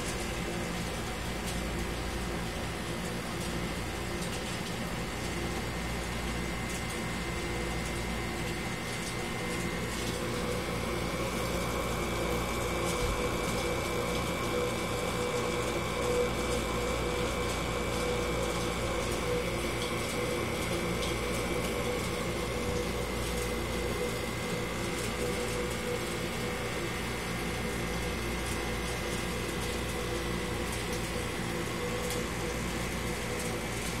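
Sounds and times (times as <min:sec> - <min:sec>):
aquarium pump humming: 0:00.0 - 0:34.0.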